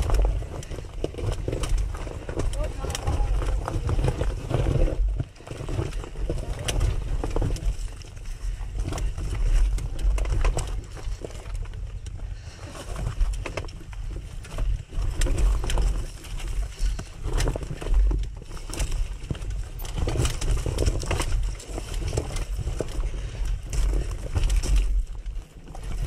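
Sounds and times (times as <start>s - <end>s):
bike rattling: 0.0s - 26.0s
tyres crunching over stones: 0.0s - 26.0s.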